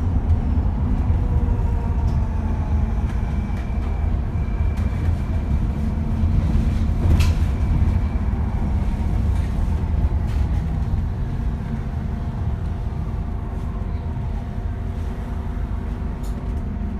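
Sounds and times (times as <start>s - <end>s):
bus engine rumble: 0.0s - 16.9s.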